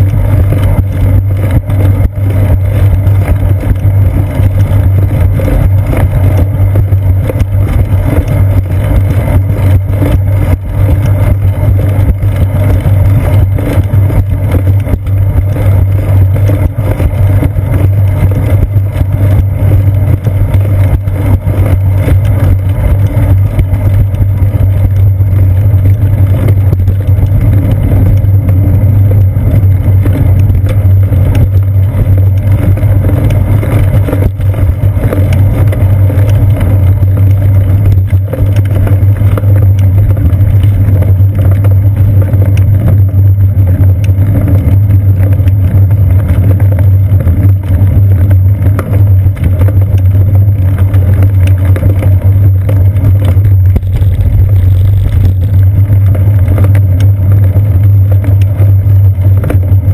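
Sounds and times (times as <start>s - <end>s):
wind and road vibration drone: 0.0s - 59.9s.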